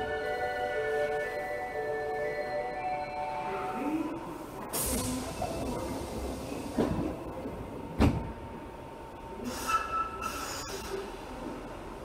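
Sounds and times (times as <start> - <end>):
train standing at platform: 0.0 - 12.0.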